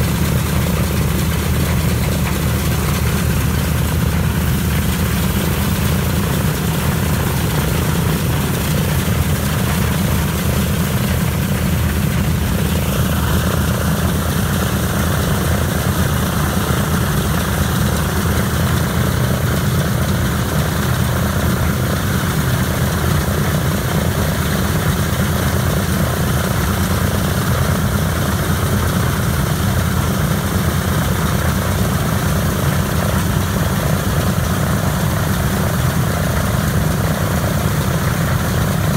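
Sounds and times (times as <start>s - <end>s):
radial engine and propeller drone: 0.0s - 38.9s.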